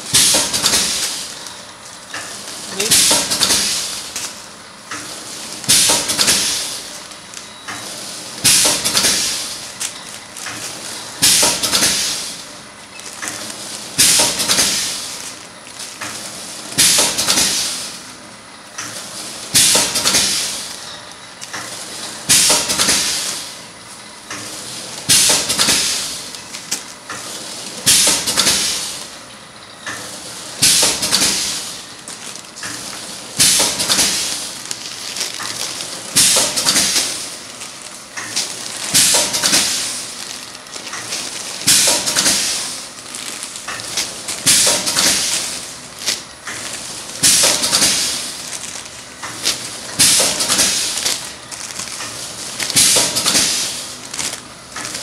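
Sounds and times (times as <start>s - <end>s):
packing machine running: 0.0s - 55.0s.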